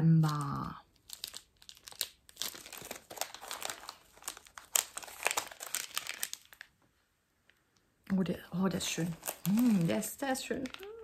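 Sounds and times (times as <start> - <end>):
plastic packaging crinkling: 0.0 - 6.9, 8.8 - 11.0.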